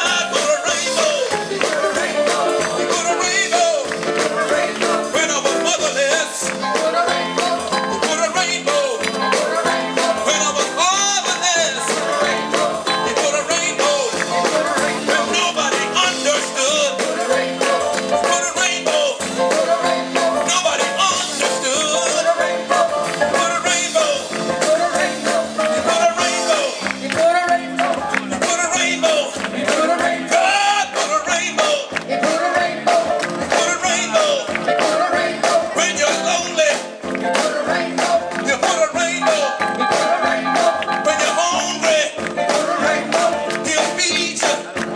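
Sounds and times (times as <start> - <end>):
live gospel band music: 0.0 - 44.9
people singing: 0.0 - 44.9
steady drum beat: 0.0 - 44.9.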